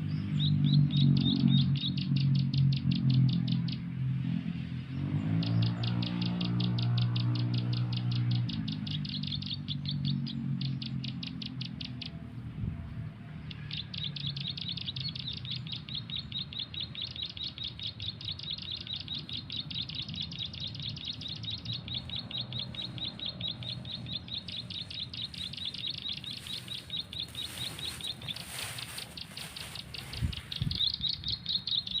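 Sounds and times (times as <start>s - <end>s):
bird chirping rapidly: 0.0s - 4.0s, 5.0s - 12.3s, 13.4s - 32.0s.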